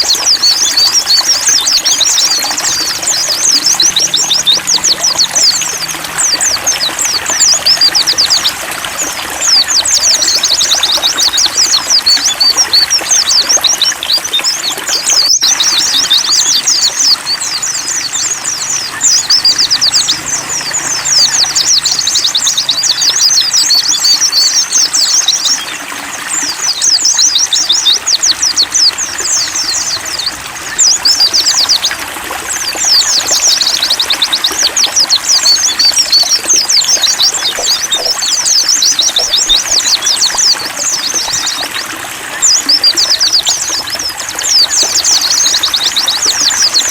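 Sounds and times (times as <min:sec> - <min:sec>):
bird twittering song: 0:00.0 - 0:46.9
running water trickle: 0:00.0 - 0:46.9.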